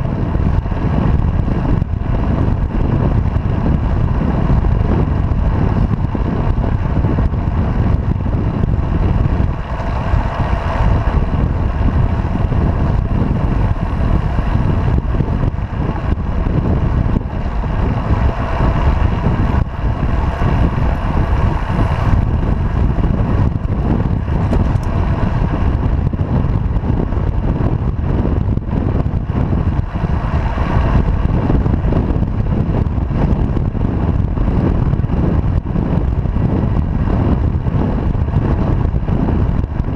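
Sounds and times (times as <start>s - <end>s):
tyres humming on asphalt: 0.0s - 39.9s
wind buffeting microphone: 0.0s - 39.9s.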